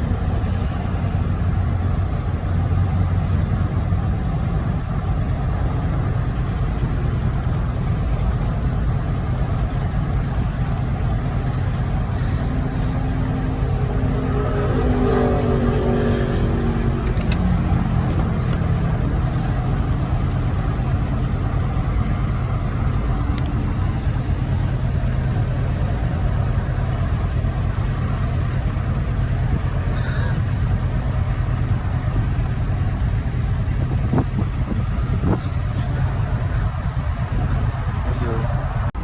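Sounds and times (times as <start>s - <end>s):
engine and road rumble: 0.0s - 39.0s
pitched hum: 0.0s - 39.0s
traffic hiss: 0.0s - 39.0s.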